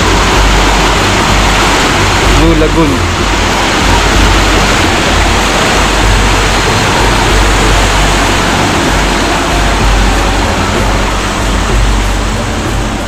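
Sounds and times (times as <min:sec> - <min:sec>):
loud steady rushing noise: 0:00.0 - 0:13.0
uneven low rumble: 0:00.0 - 0:13.0.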